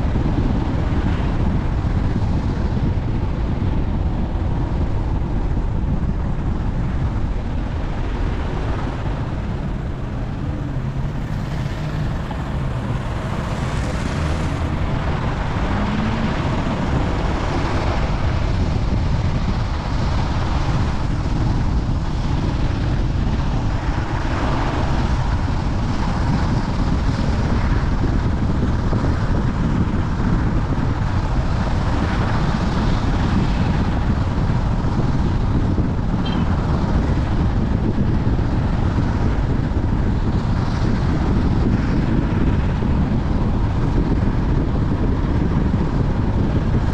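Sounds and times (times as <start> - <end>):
road and engine rumble: 0.0 - 46.9
wind buffeting microphone: 0.0 - 46.9.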